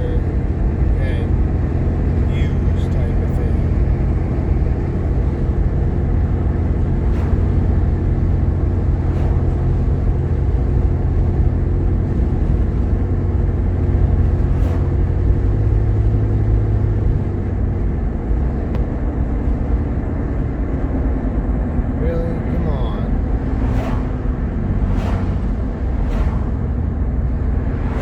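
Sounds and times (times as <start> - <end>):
car engine and tyres droning: 0.0 - 28.0.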